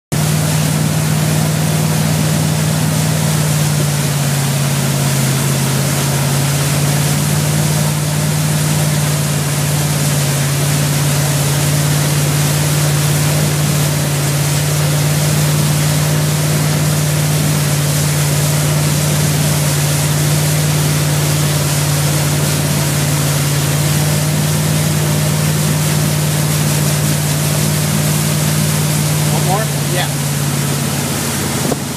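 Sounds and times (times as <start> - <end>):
boat engine drone: 0.1 - 31.9
wake water and wind hiss: 0.2 - 31.9.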